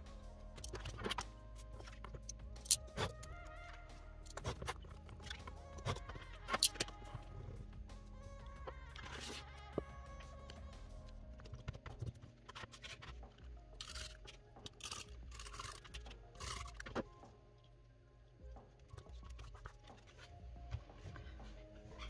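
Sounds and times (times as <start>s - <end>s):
quiet background music: 0.0s - 22.0s.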